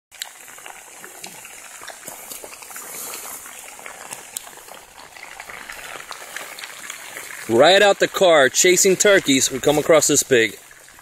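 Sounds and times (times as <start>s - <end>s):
raindrops tapping: 0.1s - 11.0s
heavy rain on vegetation: 0.4s - 11.0s.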